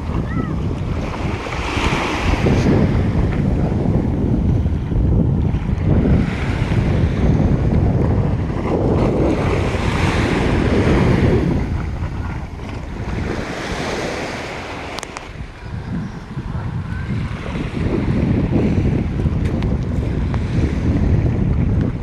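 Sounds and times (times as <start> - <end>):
ocean waves washing ashore: 0.0 - 22.0
wind buffeting microphone: 0.0 - 22.0.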